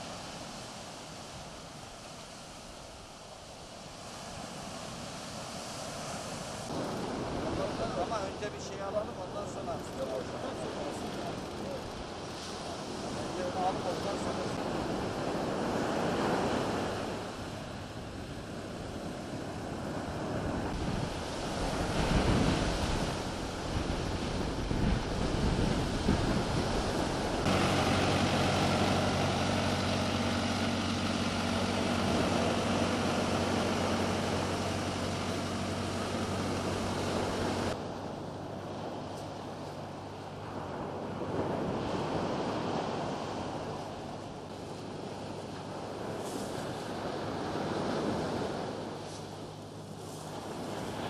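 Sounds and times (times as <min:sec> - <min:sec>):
surf breaking on shore: 0:00.0 - 0:51.0
steady engine hum: 0:06.6 - 0:51.0
wind buffeting microphone: 0:06.6 - 0:51.0.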